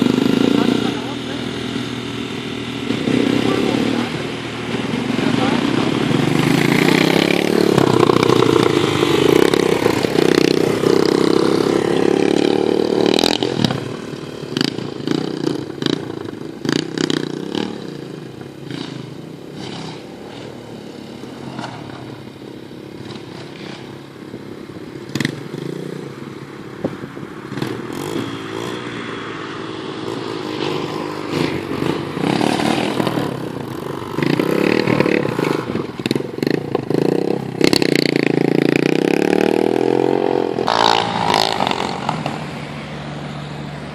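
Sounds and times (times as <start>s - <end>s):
off-road vehicle engine running: 0.0s - 43.9s.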